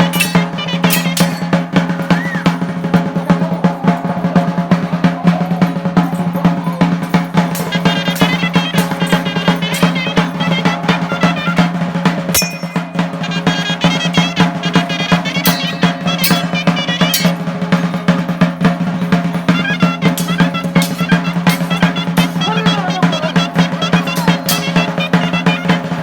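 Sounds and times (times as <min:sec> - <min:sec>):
fast drumming with rolls: 0:00.0 - 0:26.0
reed melody trilling: 0:00.0 - 0:26.0.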